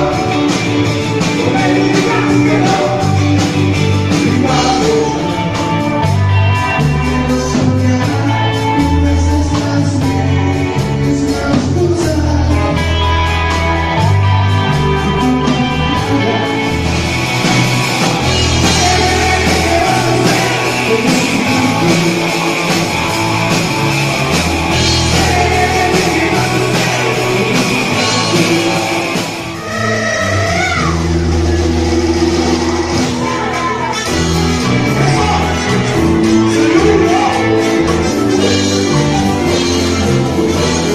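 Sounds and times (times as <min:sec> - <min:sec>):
person singing: 0:00.0 - 0:40.9
rock guitar with bending notes: 0:00.0 - 0:40.9
steady bass line: 0:00.0 - 0:40.9.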